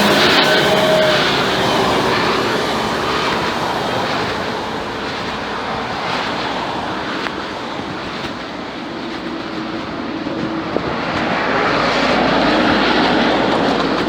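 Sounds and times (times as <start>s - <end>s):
motorcycle running: 0.0s - 14.0s
wind noise: 0.0s - 14.0s.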